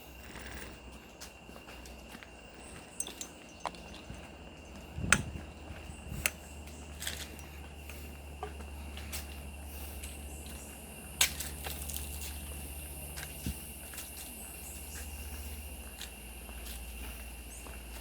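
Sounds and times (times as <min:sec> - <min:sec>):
high insect tone: 0:00.0 - 0:18.0
footsteps crunching on dry leaves: 0:03.5 - 0:18.0.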